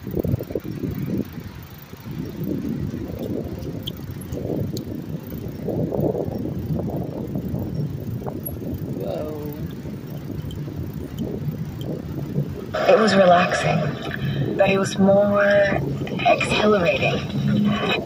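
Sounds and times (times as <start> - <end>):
bicycle tyre noise: 0.0 - 18.0
wind buffeting microphone: 0.0 - 18.0.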